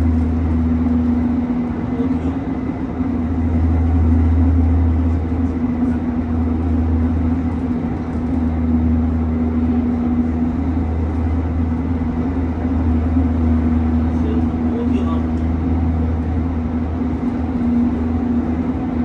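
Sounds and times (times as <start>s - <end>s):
steady hum: 0.0s - 19.0s
train low rumble: 0.0s - 19.0s.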